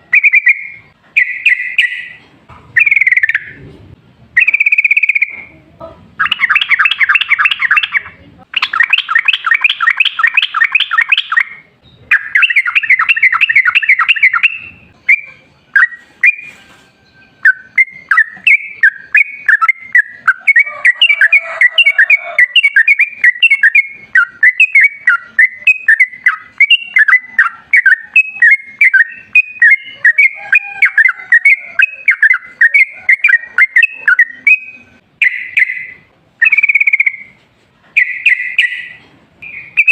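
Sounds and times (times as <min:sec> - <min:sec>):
bulbul singing trills and chirps: 0:06.2 - 0:37.4, 0:38.0 - 0:39.9.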